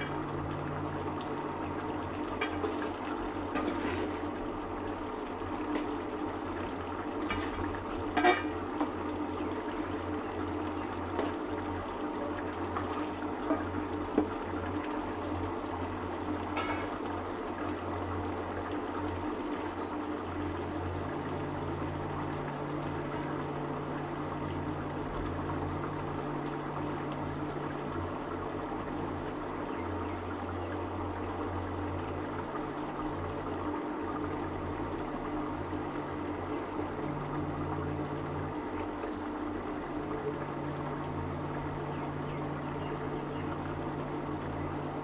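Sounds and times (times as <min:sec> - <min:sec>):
gravy bubbling in a pot: 0:00.0 - 0:45.0
low steady hum: 0:00.0 - 0:45.0.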